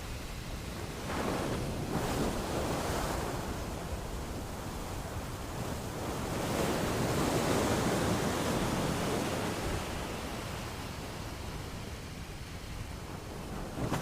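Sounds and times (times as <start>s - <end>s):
ocean waves washing onto beach: 0.0s - 14.0s.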